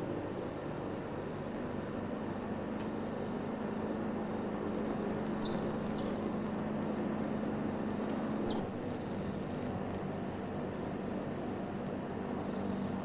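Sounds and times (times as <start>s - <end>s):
biplane engine droning overhead: 0.0s - 13.0s.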